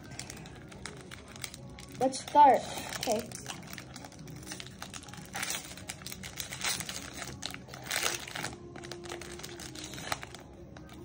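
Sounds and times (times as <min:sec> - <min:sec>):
foil wrapper tearing and crinkling: 0:00.0 - 0:11.0.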